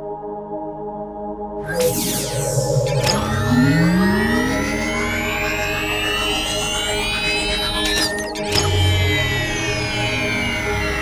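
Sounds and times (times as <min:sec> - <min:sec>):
electronic drone with falling tones: 0:01.6 - 0:11.0
downward sweep: 0:01.7 - 0:11.0.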